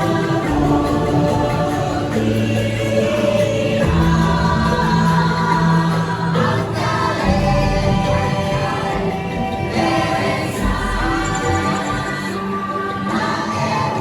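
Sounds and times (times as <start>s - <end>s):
choir singing held notes: 0.0s - 14.0s
instrumental score: 0.0s - 14.0s.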